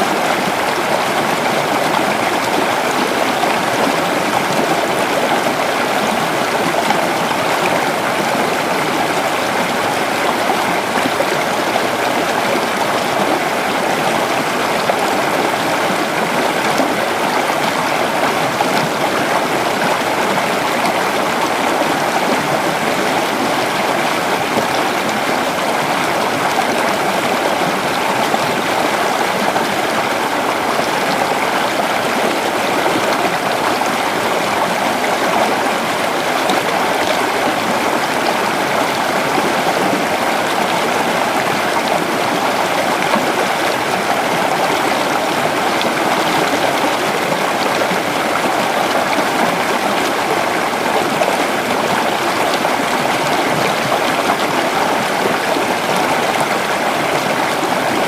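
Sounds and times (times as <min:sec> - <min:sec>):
creek water running over stones: 0:00.0 - 0:58.0.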